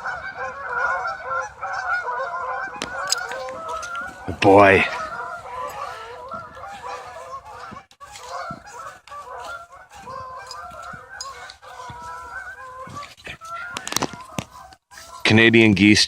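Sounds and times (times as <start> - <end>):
geese honking: 0.0 - 15.9.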